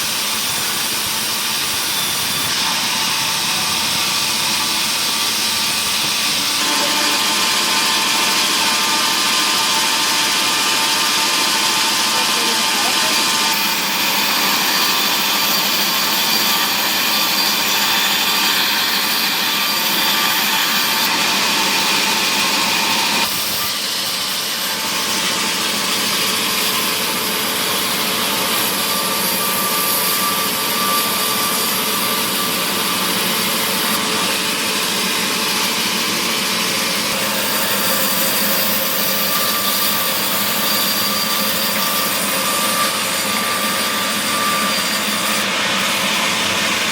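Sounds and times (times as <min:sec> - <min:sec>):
power saw cutting wood: 0:00.0 - 0:46.9.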